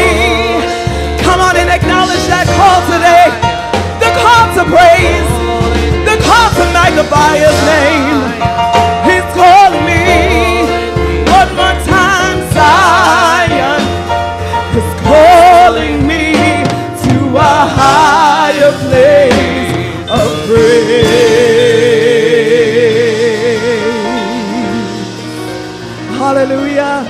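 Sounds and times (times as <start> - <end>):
woman singing gospel: 0.0 - 25.2
instrumental accompaniment: 0.0 - 27.0.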